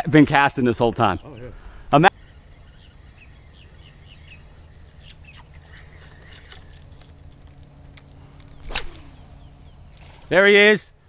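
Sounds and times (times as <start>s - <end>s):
faint bird chirps: 0.8s - 10.2s.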